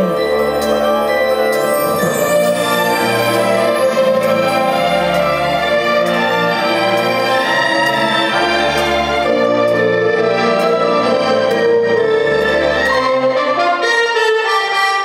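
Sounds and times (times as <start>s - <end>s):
orchestral music with bowed strings: 0.0s - 15.0s.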